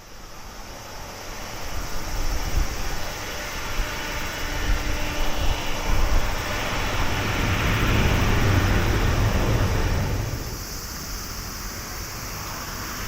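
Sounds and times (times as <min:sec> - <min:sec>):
jet engines rumbling: 0:00.2 - 0:13.0.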